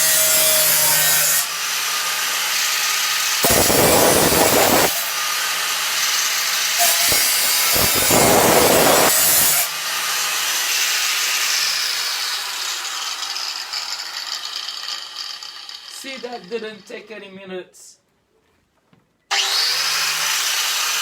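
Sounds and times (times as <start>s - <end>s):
angle grinder cutting metal can: 0.0s - 16.9s, 19.3s - 21.0s.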